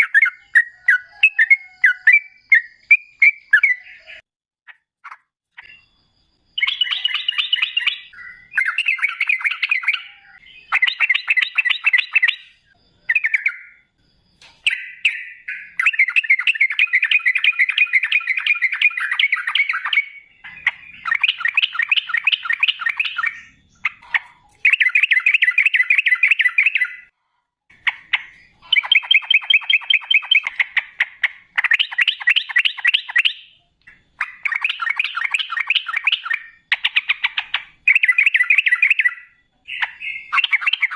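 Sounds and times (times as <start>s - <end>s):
bird singing rolling chattering phrases: 0.0s - 13.9s, 14.5s - 27.1s, 27.7s - 40.9s.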